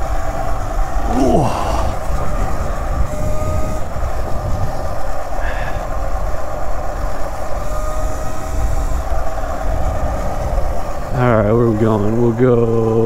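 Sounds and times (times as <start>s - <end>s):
electric motor whine: 0.0s - 13.0s
wind on microphone: 0.0s - 13.0s.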